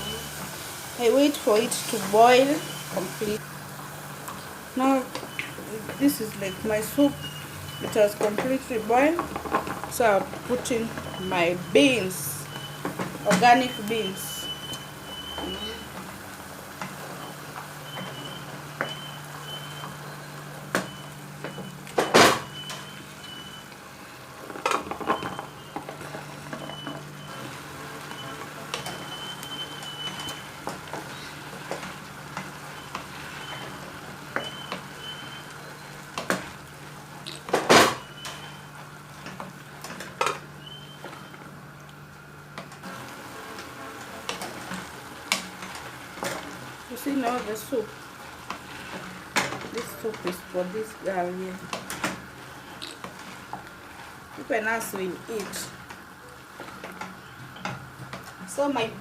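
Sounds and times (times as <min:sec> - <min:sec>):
stew simmering and sizzling: 0:00.0 - 0:59.0.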